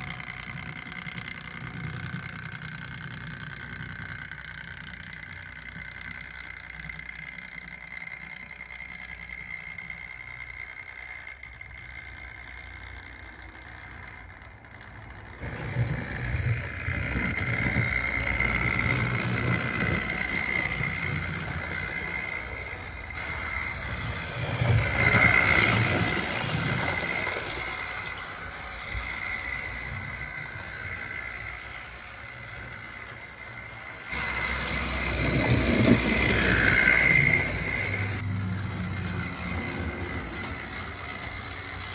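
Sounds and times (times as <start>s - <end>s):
model train motor whine: 0.0s - 41.9s
wheels rumbling on track: 0.0s - 41.9s.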